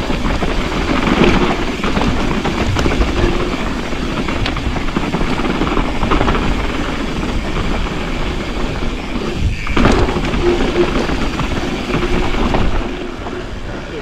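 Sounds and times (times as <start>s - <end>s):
bike rattling over rough ground: 0.0s - 14.0s
wind rushing over microphone: 0.0s - 14.0s.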